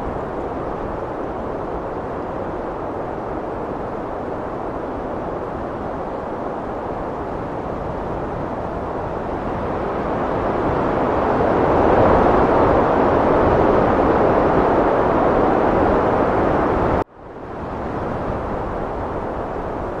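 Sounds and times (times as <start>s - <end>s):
heavy wind blowing: 0.0s - 20.0s.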